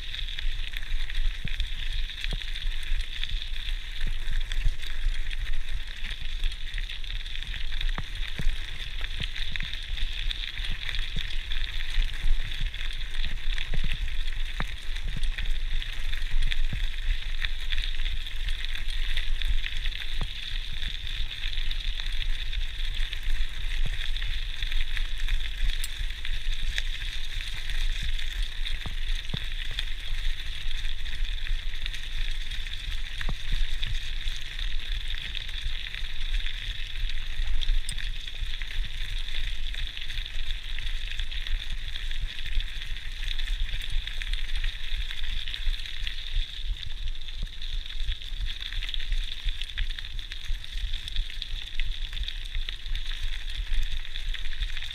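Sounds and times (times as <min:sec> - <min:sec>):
bike tyres crunching on gravel: 0:00.0 - 0:53.2.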